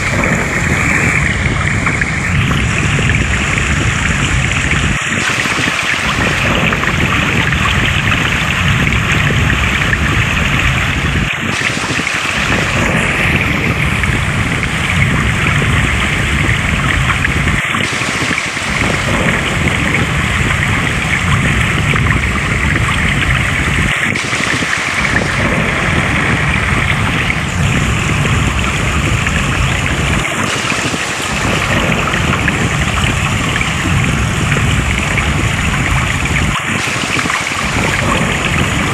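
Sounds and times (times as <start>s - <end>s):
water rushing and splashing: 0.0s - 38.9s.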